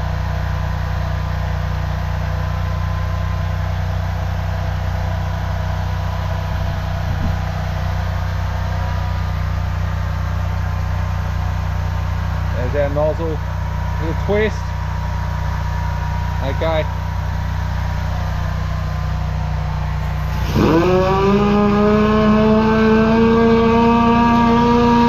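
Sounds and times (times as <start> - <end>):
drain jetter engine running: 0.0 - 25.0.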